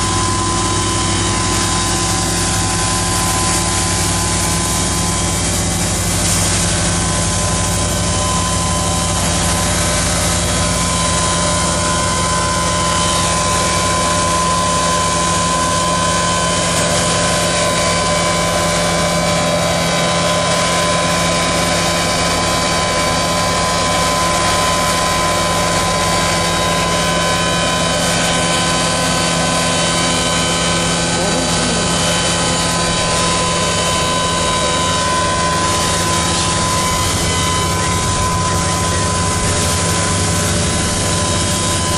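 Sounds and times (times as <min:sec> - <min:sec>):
steady mechanical whine: 0:00.0 - 0:41.9
tractor diesel engine droning: 0:00.0 - 0:41.9.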